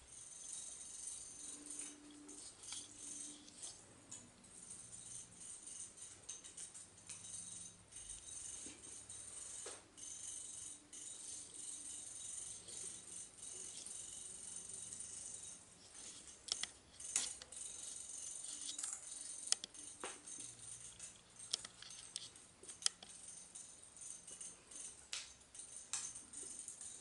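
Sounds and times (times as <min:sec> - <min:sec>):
jingling shaker percussion: 0:00.0 - 0:27.0.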